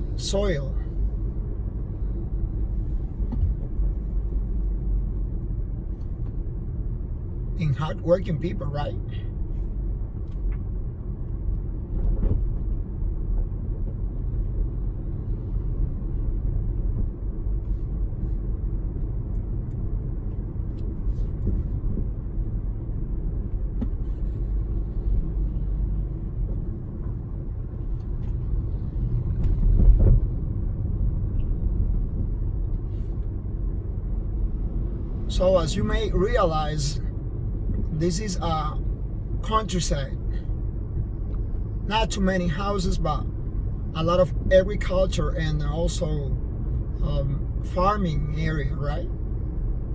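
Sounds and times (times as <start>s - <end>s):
car engine and tyres rumbling: 0.0s - 49.9s.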